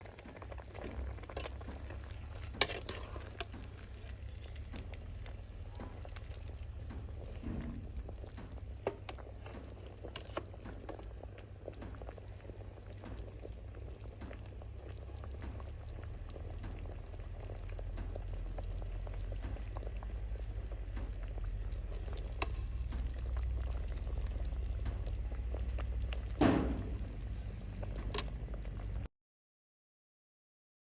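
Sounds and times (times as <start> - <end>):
soup boiling in a pot: 0.0 - 29.1.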